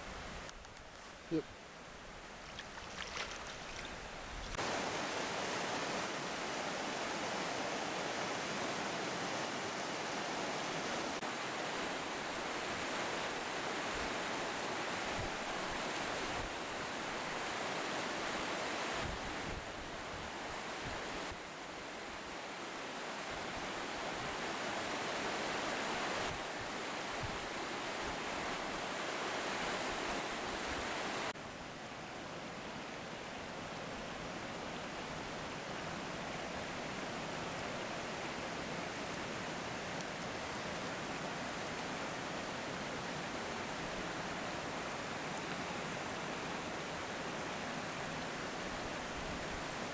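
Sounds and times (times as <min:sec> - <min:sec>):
rushing creek water: 0:01.6 - 0:49.9.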